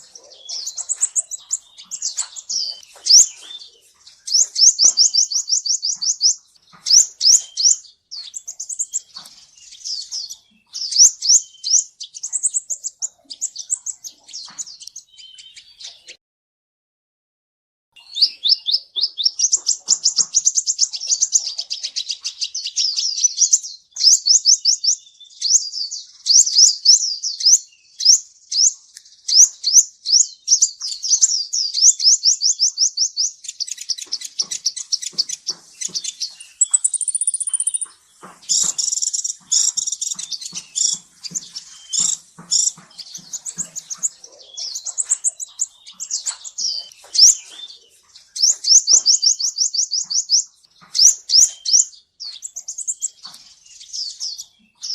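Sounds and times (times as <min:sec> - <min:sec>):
sunbird twittering song: 0:00.0 - 0:16.2, 0:18.0 - 0:54.9.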